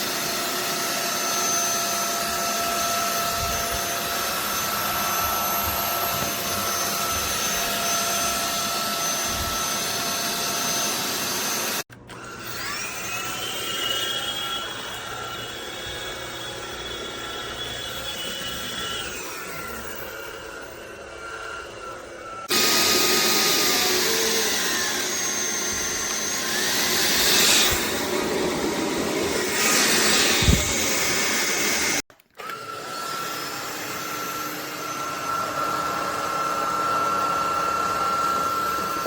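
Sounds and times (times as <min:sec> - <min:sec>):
stick vacuum motor whine: 0:00.0 - 0:39.0.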